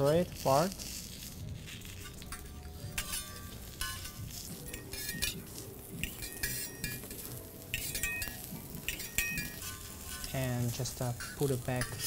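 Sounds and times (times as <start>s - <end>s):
metal spatulas scraping on griddle: 0.0s - 12.0s.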